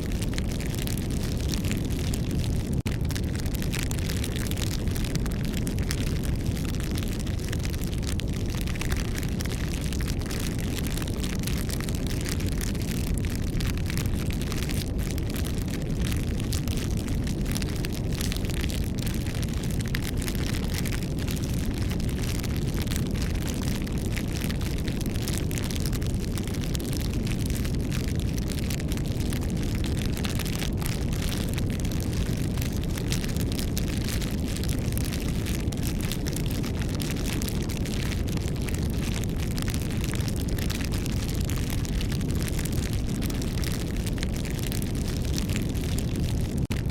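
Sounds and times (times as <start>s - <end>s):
burning wood crackling: 0.0s - 46.9s
low rush of flames: 0.0s - 46.9s.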